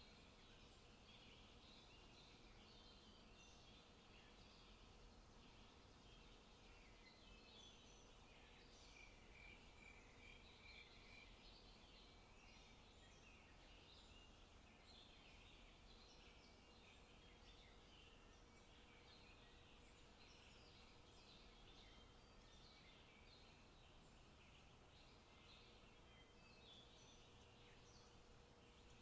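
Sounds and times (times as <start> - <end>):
small birds singing and chirping: 0.0 - 29.0.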